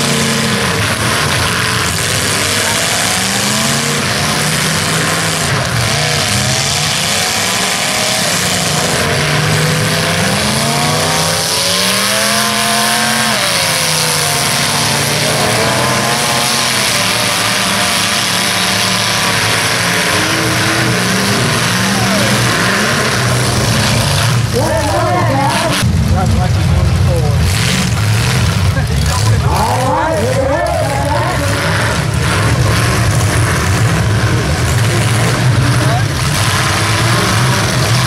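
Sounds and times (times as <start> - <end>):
car engines revving hard: 0.0 - 38.0.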